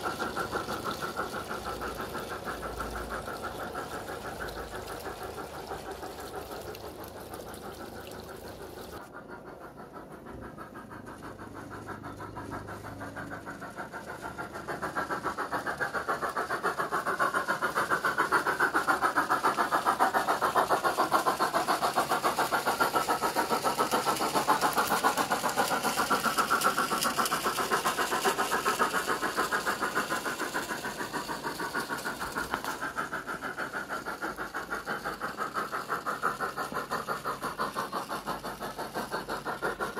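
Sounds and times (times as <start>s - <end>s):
model locomotive steam chuff: 0.0s - 39.9s.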